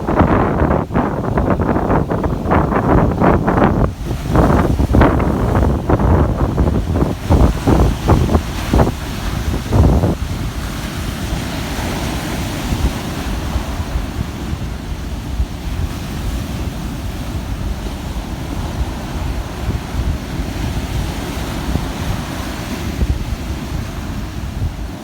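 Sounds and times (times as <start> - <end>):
ocean surf washing in: 0.0 - 25.0
wind buffeting microphone: 0.0 - 25.0.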